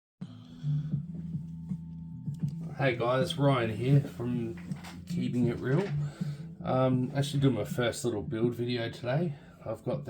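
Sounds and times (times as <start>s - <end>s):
background music with low bass: 0.2s - 10.0s.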